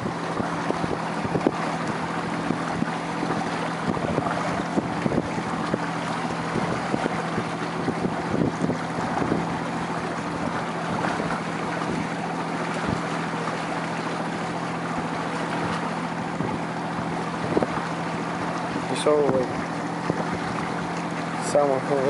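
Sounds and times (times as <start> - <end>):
boat motor running: 0.0 - 22.0
water noise: 0.0 - 22.0
wind: 0.0 - 22.0.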